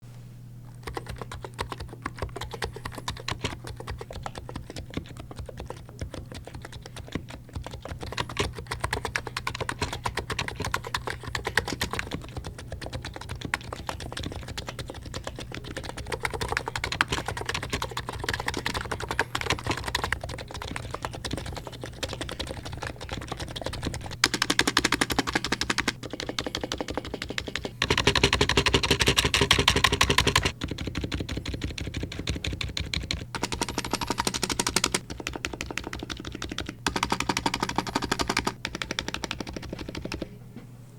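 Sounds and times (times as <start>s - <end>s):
fast keyboard typing: 0.8s - 40.4s.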